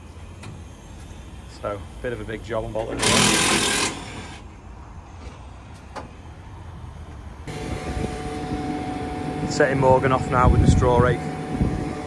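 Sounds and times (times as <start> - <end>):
tractor engine whining: 0.0 - 5.4, 7.4 - 12.0.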